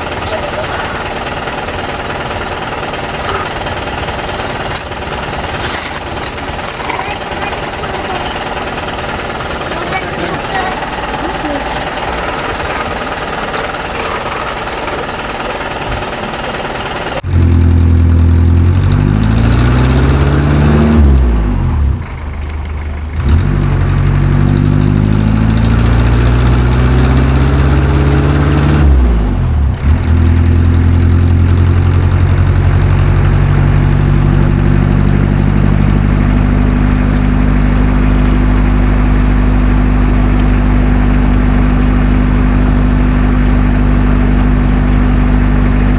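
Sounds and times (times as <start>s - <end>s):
rattling mechanical noise: 0.0s - 45.9s
tractor engine revving and idling: 0.0s - 45.9s.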